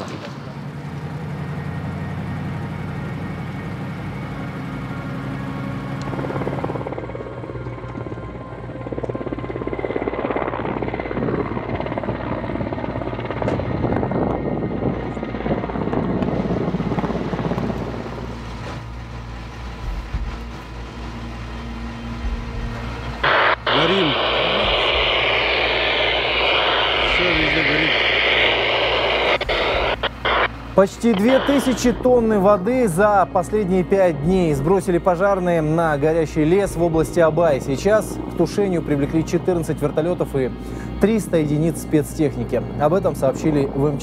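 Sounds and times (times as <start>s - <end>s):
helicopter engine drone: 0.0s - 44.0s
helicopter rotor chop: 0.0s - 44.0s.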